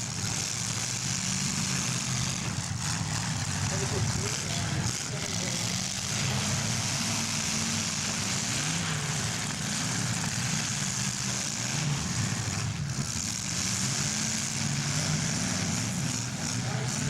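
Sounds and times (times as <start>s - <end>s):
car engines revving: 0.0s - 17.0s
exhaust hiss: 0.0s - 17.0s.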